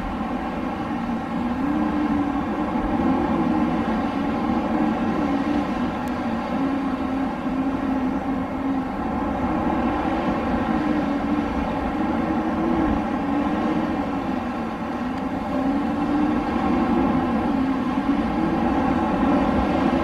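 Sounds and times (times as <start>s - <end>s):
wind howling: 0.0s - 20.0s.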